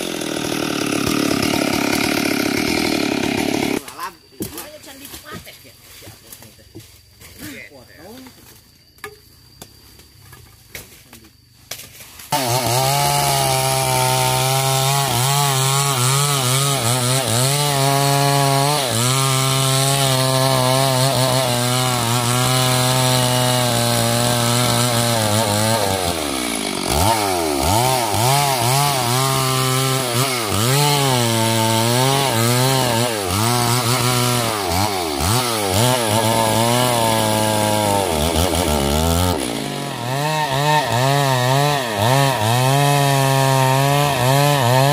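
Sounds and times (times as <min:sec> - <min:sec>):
chainsaw cutting wood: 0:00.0 - 0:05.4, 0:11.7 - 0:44.9.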